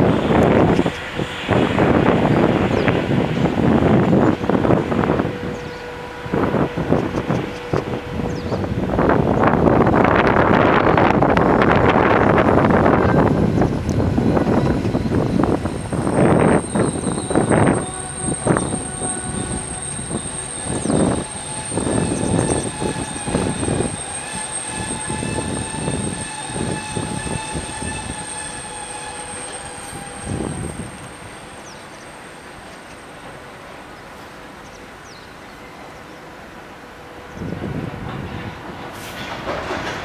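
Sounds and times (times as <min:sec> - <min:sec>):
electric train hum: 0:00.0 - 0:40.0.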